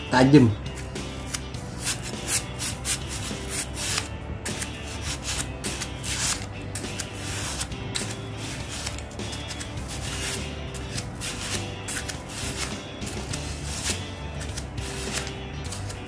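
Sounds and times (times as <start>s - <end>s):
sandpaper rubbing on metal blade: 0.6s - 16.0s.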